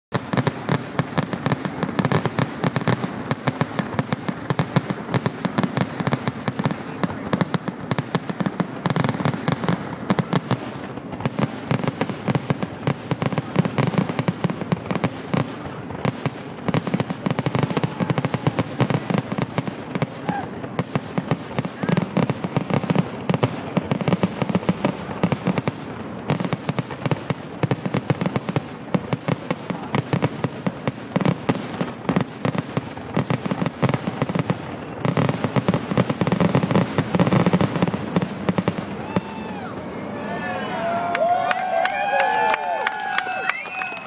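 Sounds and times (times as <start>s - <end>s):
fireworks bursting and crackling: 0.1s - 44.0s.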